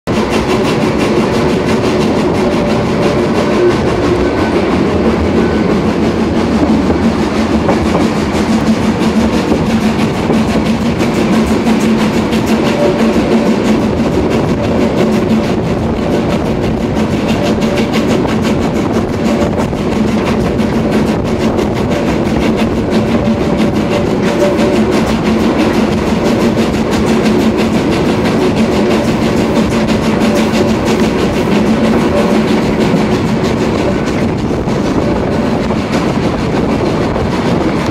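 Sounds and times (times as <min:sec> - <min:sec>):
steam locomotive working: 0:00.0 - 0:37.9
train wheels clattering on track: 0:00.0 - 0:37.9.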